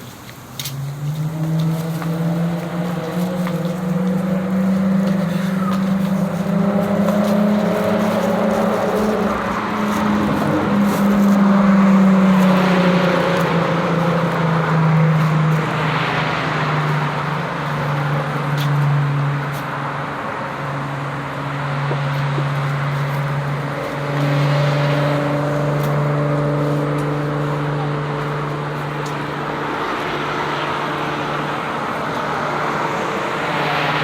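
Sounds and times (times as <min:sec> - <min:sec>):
vehicle passing rush: 0:00.0 - 0:34.0.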